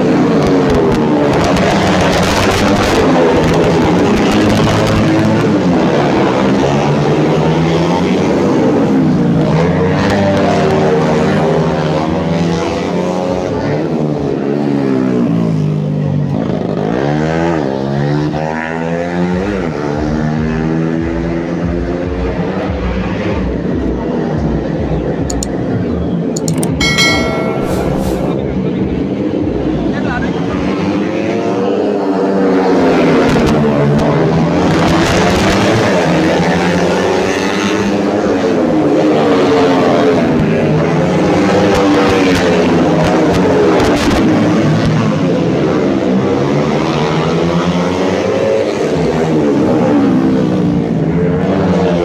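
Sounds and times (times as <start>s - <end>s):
race motorcycle engines revving: 0.0s - 27.5s, 28.4s - 52.0s.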